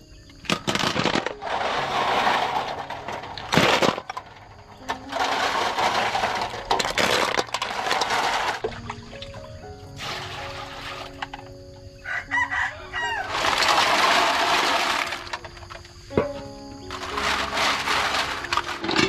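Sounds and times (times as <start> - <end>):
snail shells clattering in water: 0.5 - 11.4, 13.2 - 16.1, 16.8 - 19.0.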